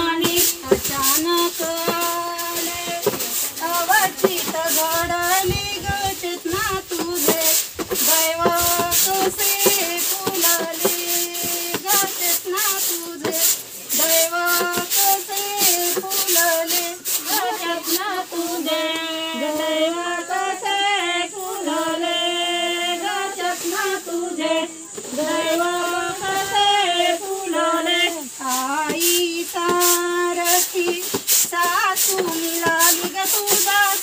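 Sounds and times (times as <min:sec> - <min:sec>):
woman singing: 0:00.0 - 0:34.0.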